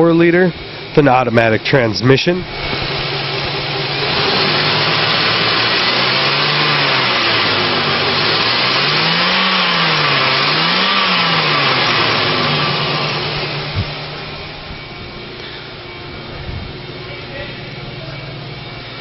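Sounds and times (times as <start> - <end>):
car engine revving: 0.0 - 19.0
steady rushing noise: 0.6 - 18.8.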